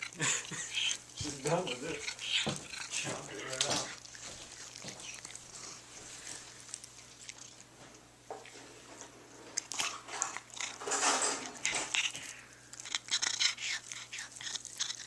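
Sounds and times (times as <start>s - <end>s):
cat chewing grass: 0.0s - 15.0s.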